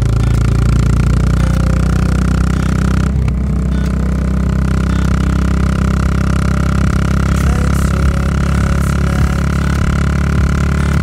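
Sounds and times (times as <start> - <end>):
motorcycle engine exhaust: 0.0 - 11.0.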